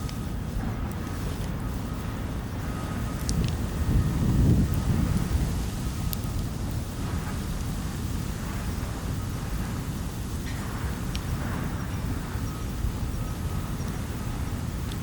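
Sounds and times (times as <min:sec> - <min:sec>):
low background rumble: 0:00.0 - 0:15.0
wood crackling in campfire: 0:00.0 - 0:15.0.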